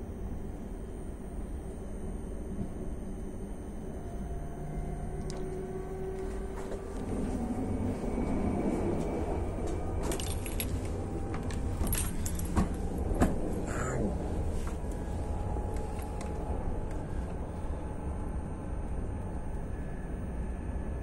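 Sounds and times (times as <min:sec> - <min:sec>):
train cabin low rumble: 0:00.0 - 0:21.0.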